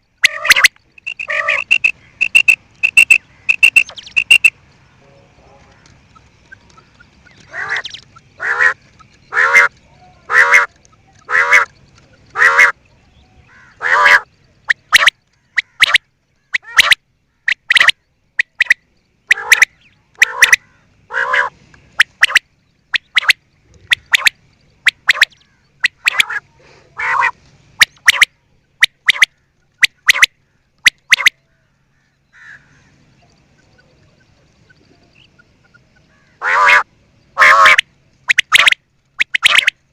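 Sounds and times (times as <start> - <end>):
quail calling: 0.0 - 4.6, 5.7 - 39.9.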